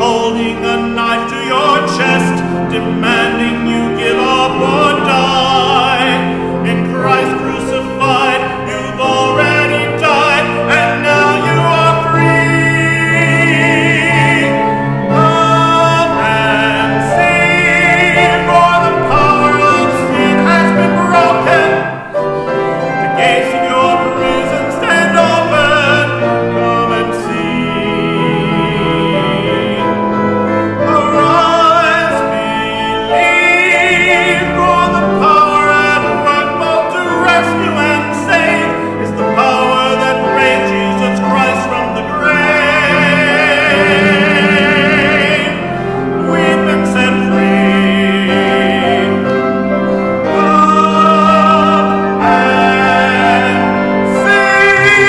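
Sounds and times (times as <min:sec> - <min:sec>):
instrumental accompaniment: 0:00.0 - 0:55.0
man singing operatically: 0:00.0 - 0:55.0.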